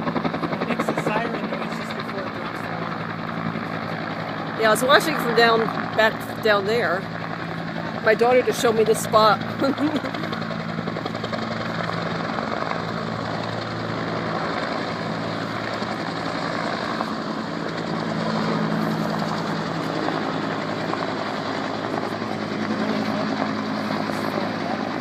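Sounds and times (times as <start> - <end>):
helicopter rotor and engine: 0.0 - 25.0.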